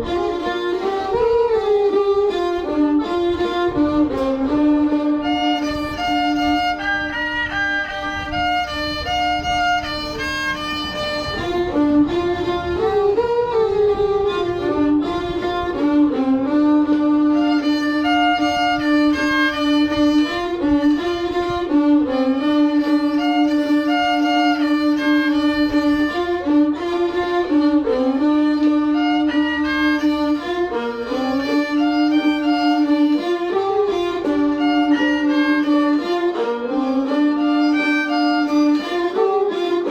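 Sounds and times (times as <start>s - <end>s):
fiddle-like melody over drone: 0.0s - 39.9s.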